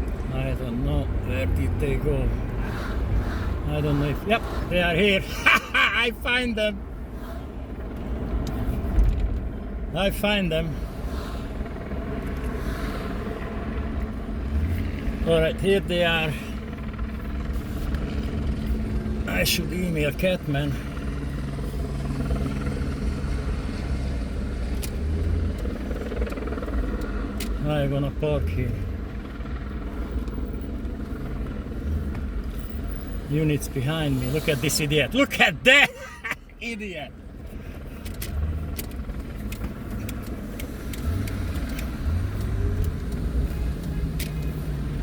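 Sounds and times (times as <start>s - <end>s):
car engine hum: 0.0s - 45.0s
road rumble: 0.0s - 45.0s.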